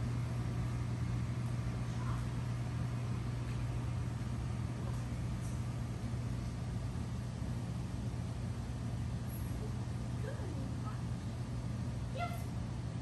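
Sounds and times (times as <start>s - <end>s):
ventilation fans humming: 0.0s - 13.0s.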